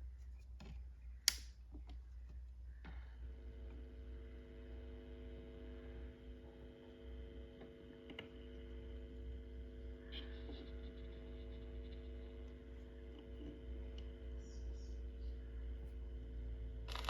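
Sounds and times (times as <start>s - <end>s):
hum of held tones: 0.0s - 17.0s.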